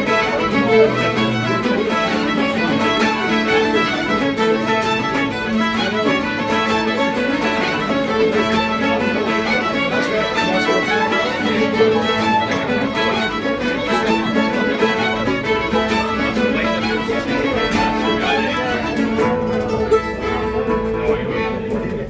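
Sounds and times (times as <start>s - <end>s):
fiddle playing a jig: 0.0s - 22.0s
guitar accompaniment: 0.0s - 22.0s.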